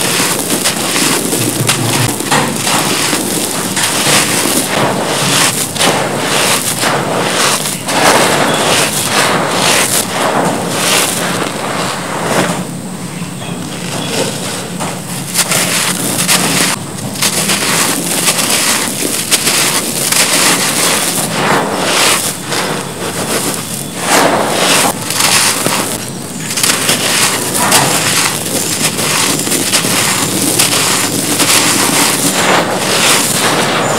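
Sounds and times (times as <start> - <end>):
hands scooping gritty powder and gravel: 0.0 - 33.9.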